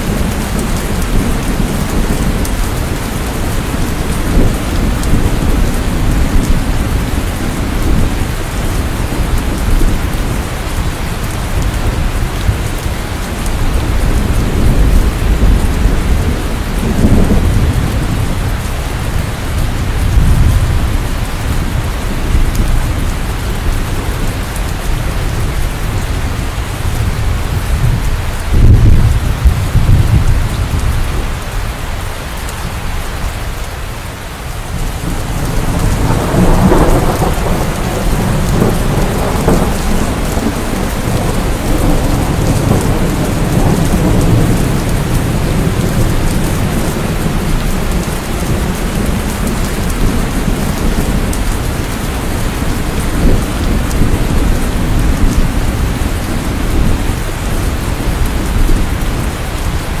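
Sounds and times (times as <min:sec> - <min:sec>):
rolling thunder: 0:00.0 - 0:31.7, 0:34.6 - 1:00.0
steady rain: 0:00.0 - 1:00.0.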